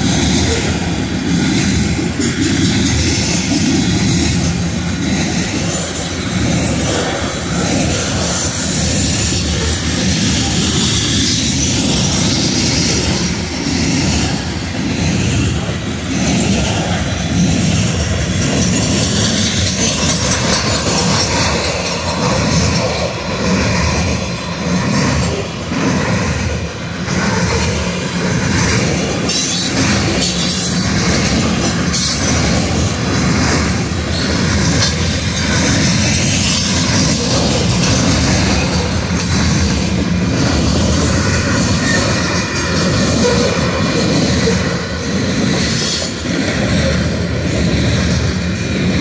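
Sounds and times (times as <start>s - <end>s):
train wheels rumbling on rails: 0.0s - 49.0s
wheels clacking over rail joints: 0.0s - 49.0s.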